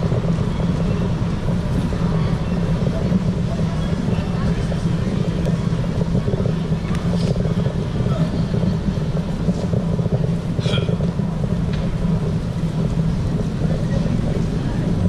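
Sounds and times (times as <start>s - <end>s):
city street rumble: 0.0s - 15.0s
faint passing voices: 0.0s - 15.0s.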